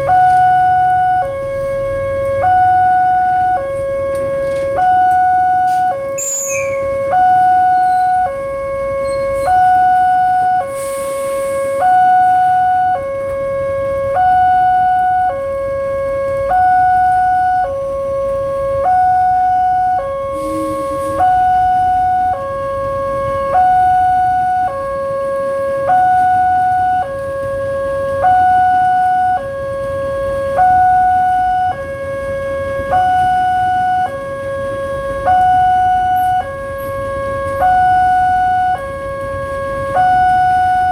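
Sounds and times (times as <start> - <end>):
two-tone crossing alarm: 0.0 - 40.9.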